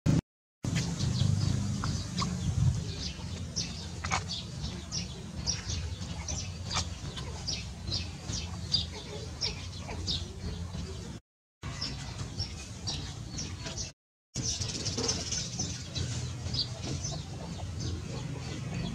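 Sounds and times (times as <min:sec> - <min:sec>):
birds chirping: 0:00.6 - 0:18.9.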